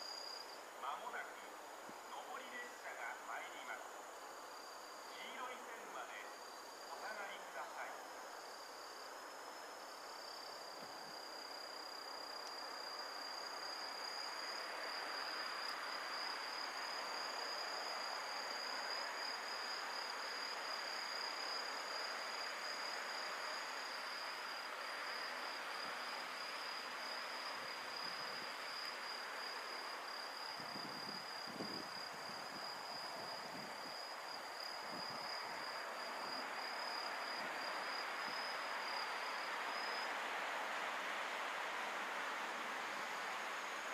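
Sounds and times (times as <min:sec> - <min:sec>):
insects trilling: 0:00.0 - 0:43.9
soft background hiss: 0:00.0 - 0:43.9.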